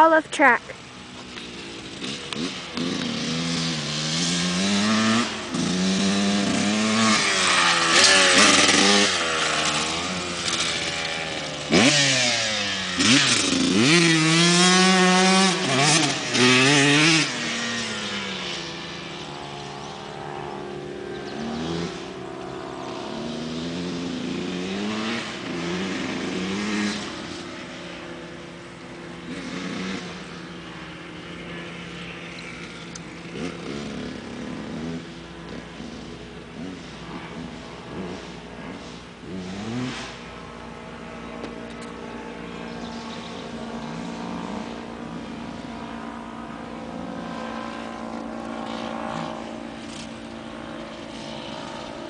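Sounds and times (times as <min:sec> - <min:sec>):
dirt bike revving: 0:00.0 - 0:52.0.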